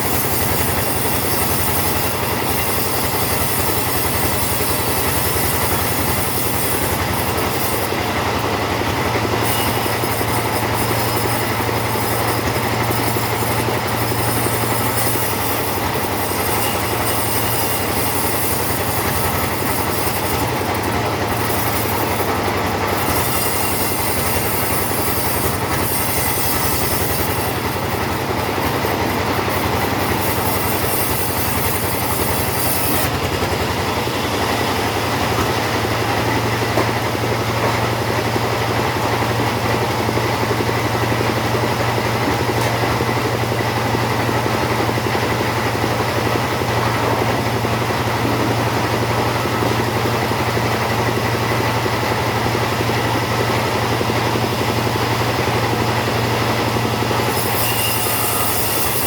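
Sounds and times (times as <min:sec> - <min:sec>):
chainsaw sawing through wood: 0:00.0 - 0:59.0.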